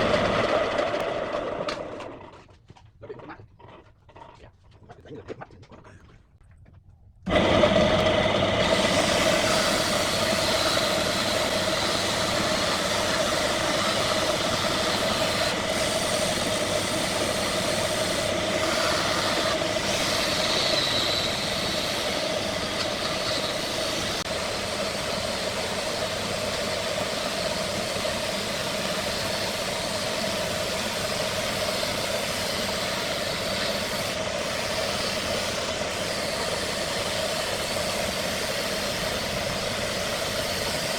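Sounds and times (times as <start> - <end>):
wood lathe running: 0.0 - 2.4, 7.3 - 40.9.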